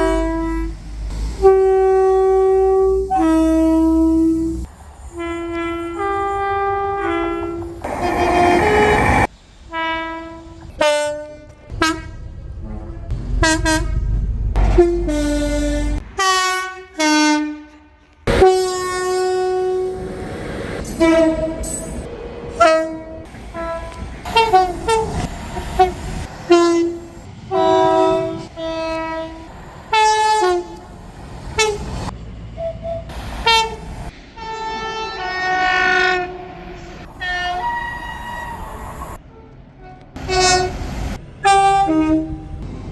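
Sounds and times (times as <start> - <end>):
two-tone train horn blasts: 0.0 - 31.0, 31.6 - 42.7
low rail rumble: 0.0 - 42.9.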